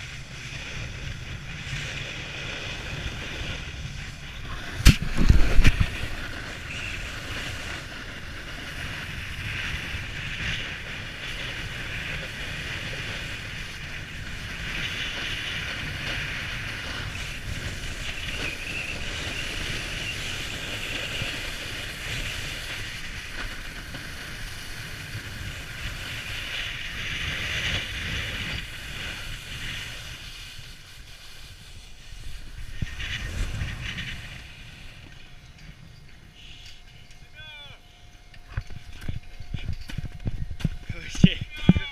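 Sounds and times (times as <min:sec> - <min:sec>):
skis sliding hiss: 0:00.0 - 0:37.7
wind buffeting microphone: 0:00.0 - 0:41.9.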